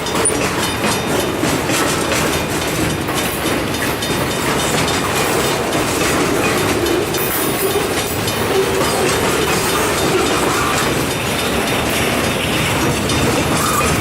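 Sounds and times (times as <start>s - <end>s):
freight train rumble: 0.0s - 14.0s
wheels clicking over rail joints: 0.0s - 14.0s.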